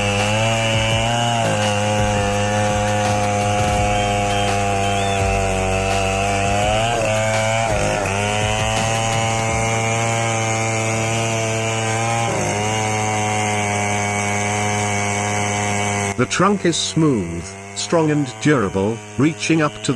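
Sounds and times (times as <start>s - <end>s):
chainsaw cutting wood: 0.0s - 19.9s.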